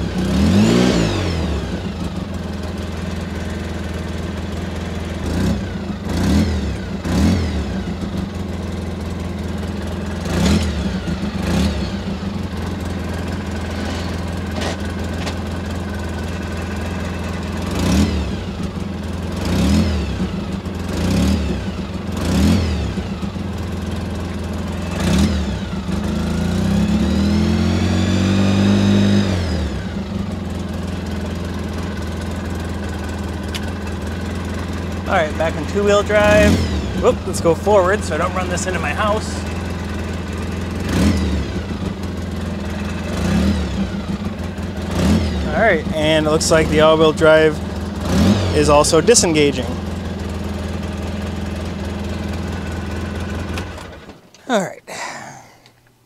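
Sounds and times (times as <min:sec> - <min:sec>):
engine throttle blips: 0:00.0 - 0:54.4
engine idling: 0:00.0 - 0:56.0.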